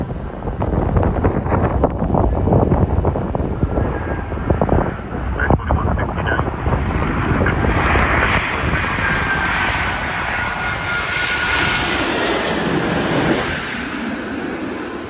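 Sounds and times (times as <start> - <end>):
faint high jet whine: 0.0 - 15.0
jet engine rumble: 0.0 - 15.0.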